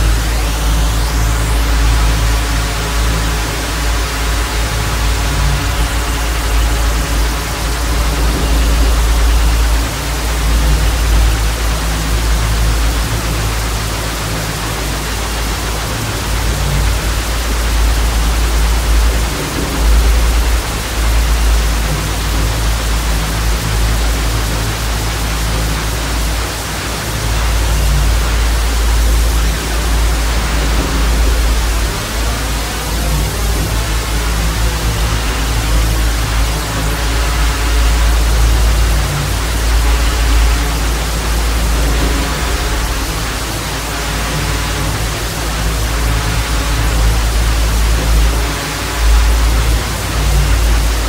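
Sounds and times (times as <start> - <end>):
ambient music drone: 0.0 - 51.0
tv static hiss: 0.0 - 51.0.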